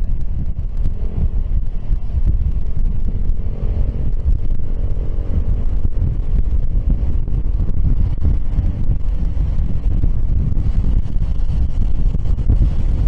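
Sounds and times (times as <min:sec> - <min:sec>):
scooter engine drone: 0:00.0 - 0:13.0
wind buffeting microphone: 0:00.0 - 0:13.0.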